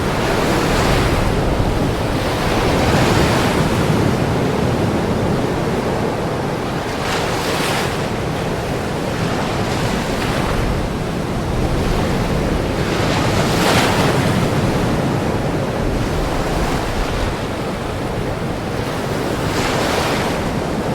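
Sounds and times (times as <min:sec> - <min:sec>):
ocean surf breaking on shore: 0:00.0 - 0:20.9.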